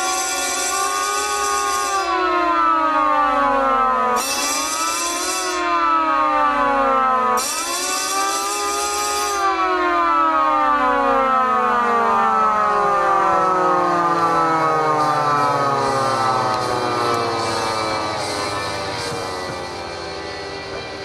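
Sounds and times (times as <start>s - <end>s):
electric siren winding down: 0.0s - 21.0s.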